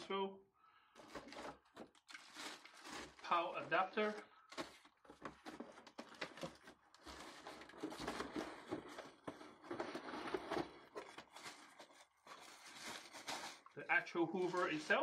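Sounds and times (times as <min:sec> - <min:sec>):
plastic bags crinkling: 0:00.9 - 0:15.0
cardboard scraping and knocking: 0:01.0 - 0:13.6.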